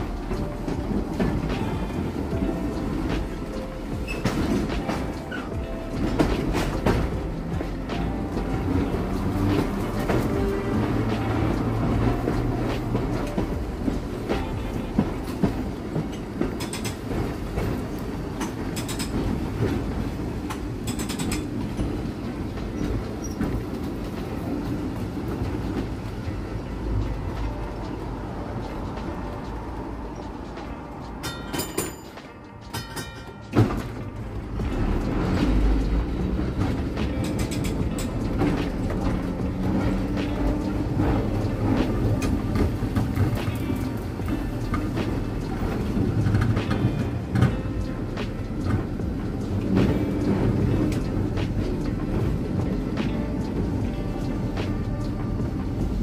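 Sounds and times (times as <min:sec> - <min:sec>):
streetcar clicks: 0:00.0 - 0:56.0
streetcar wheels rumbling on rail: 0:00.0 - 0:56.0.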